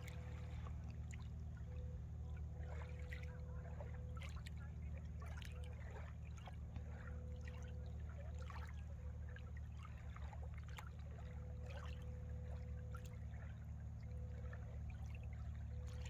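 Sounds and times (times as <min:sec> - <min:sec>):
lake water lapping at shore: 0:00.0 - 0:16.0
low steady hum: 0:00.0 - 0:16.0.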